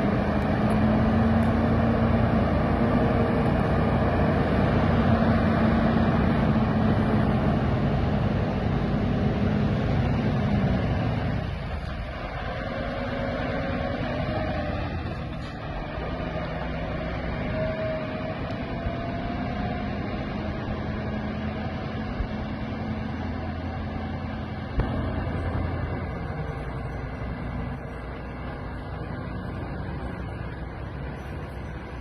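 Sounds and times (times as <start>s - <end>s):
road noise: 0.0s - 32.0s
truck engine running: 0.0s - 32.0s.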